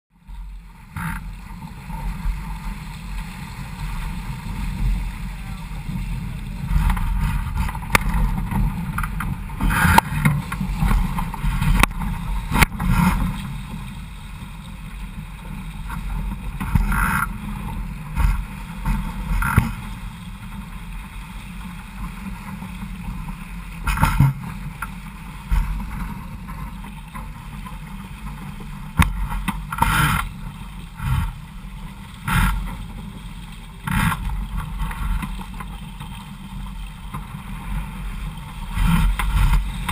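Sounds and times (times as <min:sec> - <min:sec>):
water rushing along hull: 0:00.1 - 0:39.9
waves slapping against bow: 0:00.2 - 0:39.9.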